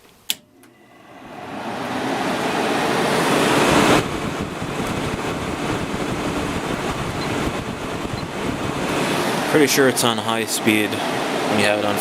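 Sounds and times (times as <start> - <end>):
air conditioner fan rushing: 0.0 - 12.0.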